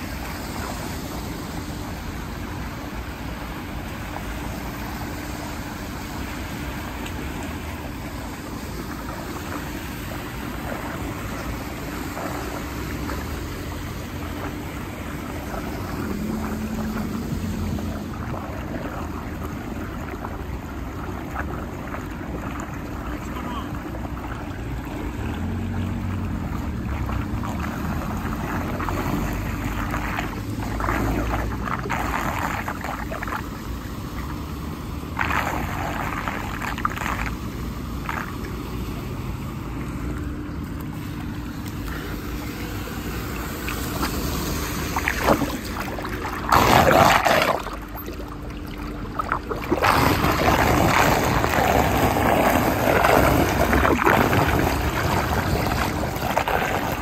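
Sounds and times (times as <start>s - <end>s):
water gurgling into drain: 0.0s - 57.0s.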